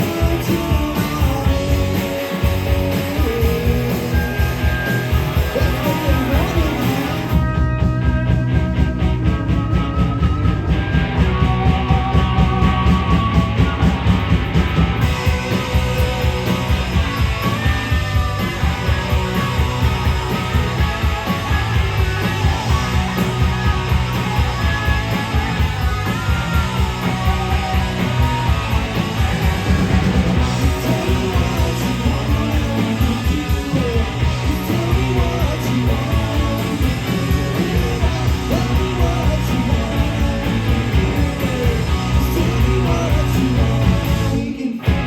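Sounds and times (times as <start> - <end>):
rock band playing live: 0.0 - 45.0.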